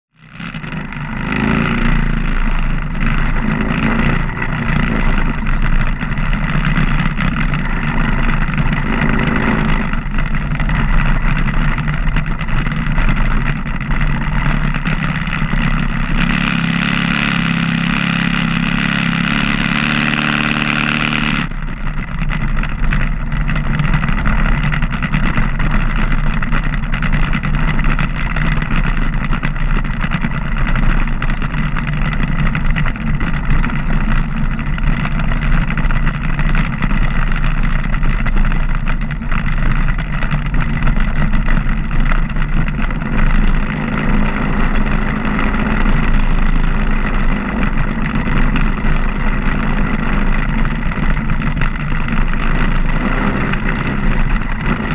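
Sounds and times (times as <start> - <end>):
motorcycle engine running: 0.1 - 54.9.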